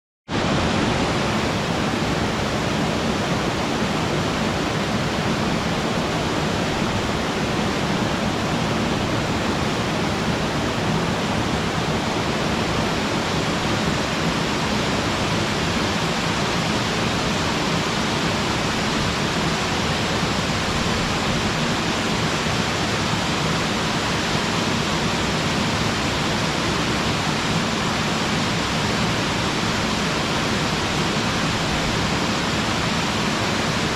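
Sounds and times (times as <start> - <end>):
waterfall rushing and splashing: 0.3 - 33.9.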